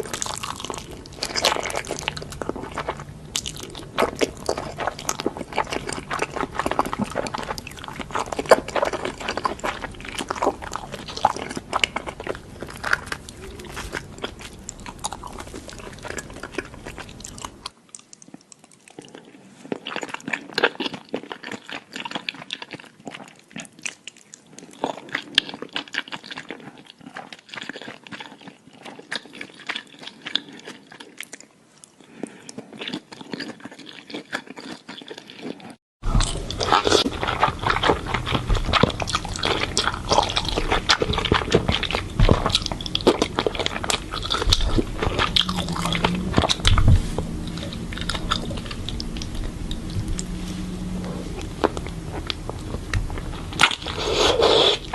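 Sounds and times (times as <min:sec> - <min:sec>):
chewing and biting noodles: 0:00.0 - 0:54.9.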